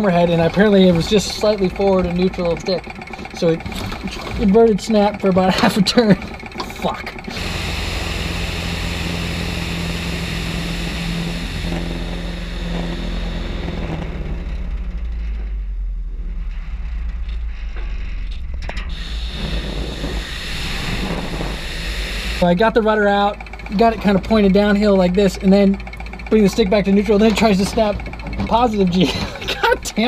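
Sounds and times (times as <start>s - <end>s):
aircraft engine and propeller drone: 0.0s - 15.6s, 18.6s - 30.0s.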